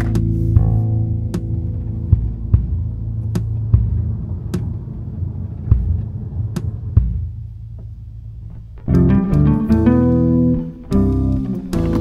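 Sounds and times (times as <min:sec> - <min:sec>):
plucked guitar and bass chords: 0:00.0 - 0:05.4, 0:07.8 - 0:12.0
low steady hum: 0:00.0 - 0:10.8.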